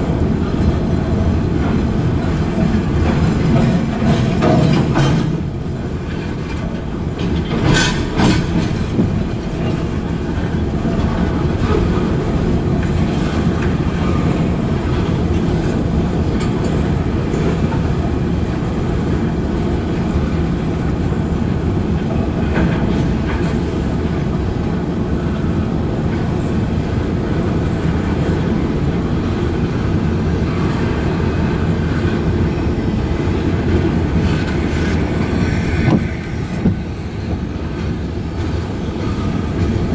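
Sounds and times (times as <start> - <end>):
clickety-clack over rail joints: 0.0 - 39.9
train wheels rumbling on rails: 0.0 - 39.9.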